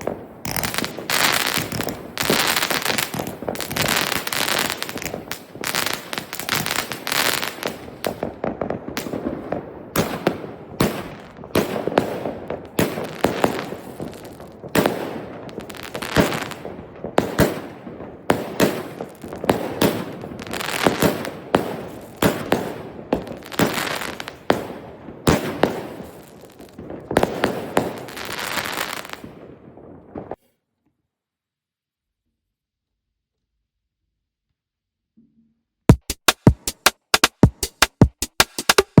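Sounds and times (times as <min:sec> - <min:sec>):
fireworks bangs: 0:00.0 - 0:30.4, 0:35.9 - 0:39.0
fireworks crackling: 0:00.0 - 0:30.4, 0:35.9 - 0:39.0.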